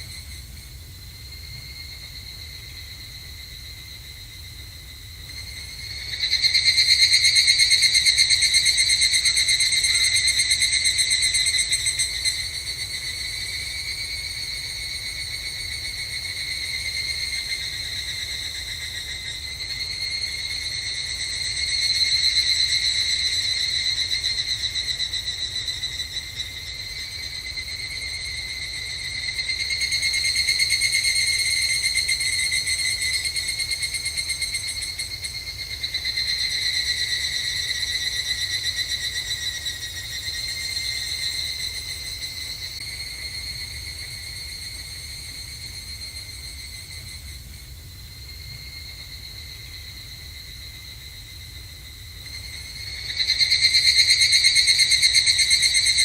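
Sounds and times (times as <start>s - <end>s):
cicadas chorus trilling: 0.0s - 56.0s.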